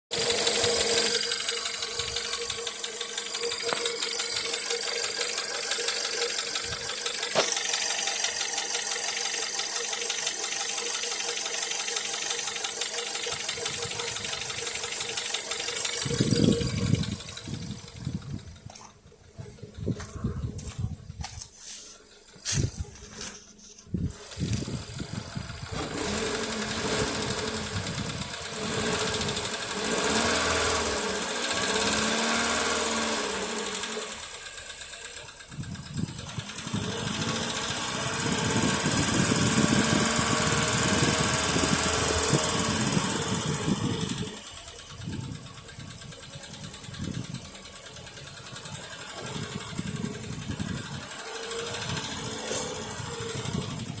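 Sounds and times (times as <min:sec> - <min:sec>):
rapid engine ticking knock: 0:00.1 - 0:21.3, 0:24.5 - 0:54.0
car engine revving and idling: 0:00.1 - 0:54.0.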